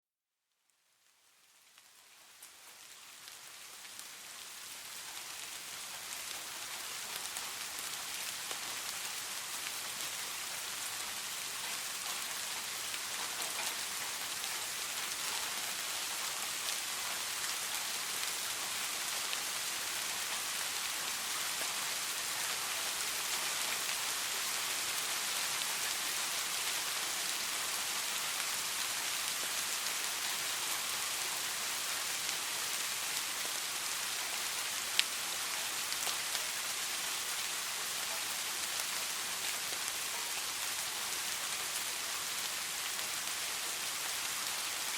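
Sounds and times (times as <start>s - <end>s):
soft rain falling: 0.3s - 44.9s.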